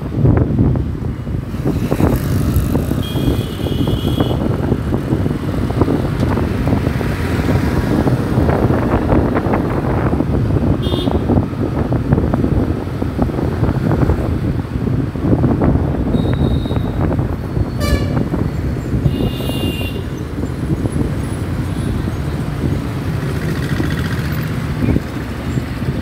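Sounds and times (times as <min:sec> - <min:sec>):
motorcycle engine rumble: 0:00.0 - 0:26.0
road noise: 0:00.0 - 0:26.0
wind buffeting microphone: 0:00.0 - 0:26.0.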